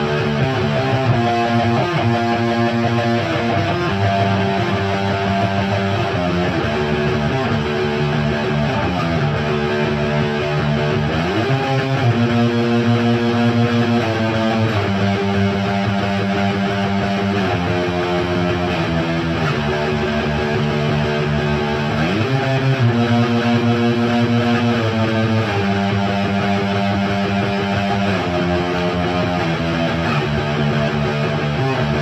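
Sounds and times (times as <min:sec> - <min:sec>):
electric guitar strummed chords: 0:00.0 - 0:32.0.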